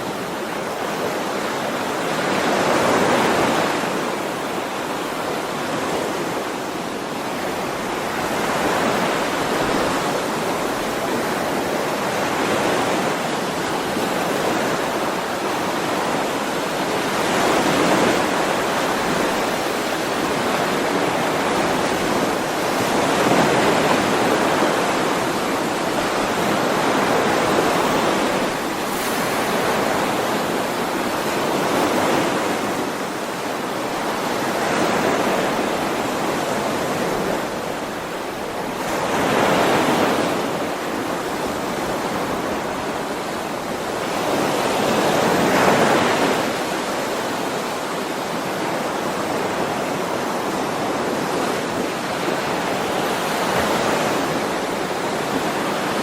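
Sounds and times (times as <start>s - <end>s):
ocean waves washing onto shore: 0.0s - 56.0s.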